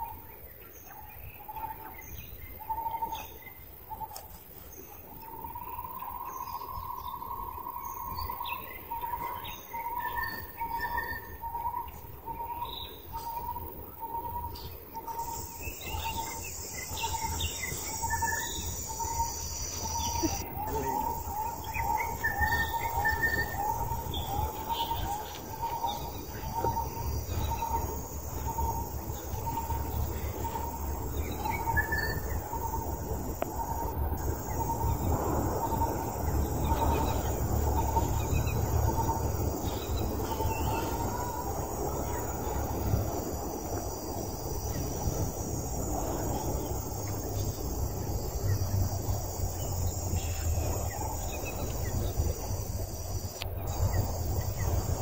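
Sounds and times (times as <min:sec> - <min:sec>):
bird chirping: 0:00.0 - 0:55.0
high insect drone: 0:00.0 - 0:55.0
low rumbling noise: 0:10.4 - 0:55.0.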